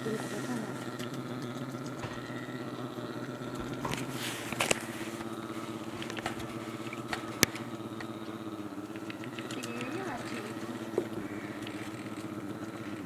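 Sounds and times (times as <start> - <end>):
bear humming drone: 0.0 - 13.0
sharp clicks: 0.0 - 13.0.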